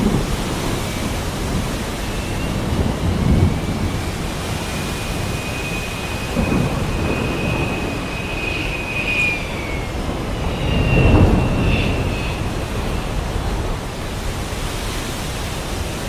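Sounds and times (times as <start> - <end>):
rolling thunder: 0.0 - 14.6
heavy rain hissing: 0.0 - 16.0
high steady whistle: 0.0 - 16.0.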